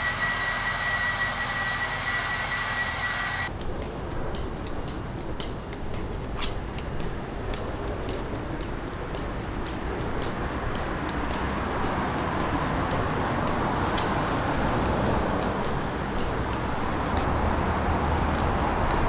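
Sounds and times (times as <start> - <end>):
vehicle road noise: 0.0 - 19.0
light ticks: 3.5 - 19.0.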